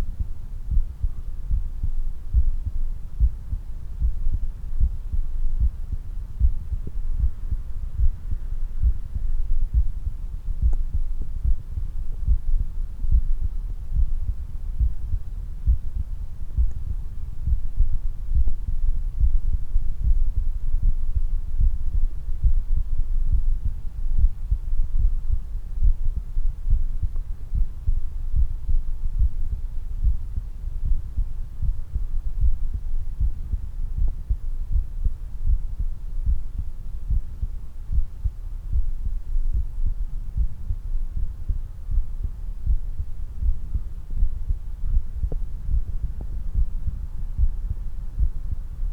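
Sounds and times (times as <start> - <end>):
human heartbeat: 0.0 - 48.9.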